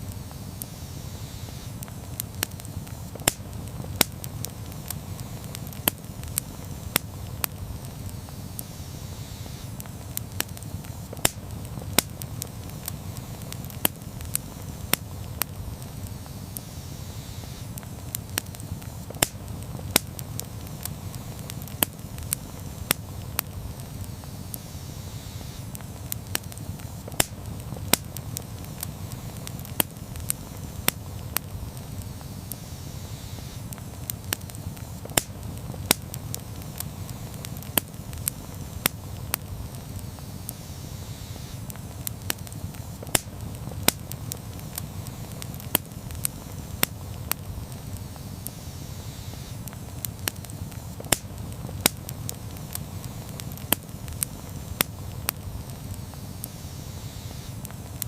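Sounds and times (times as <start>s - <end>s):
campfire flames rushing: 0.0s - 58.0s
fire crackling and popping: 0.0s - 58.0s.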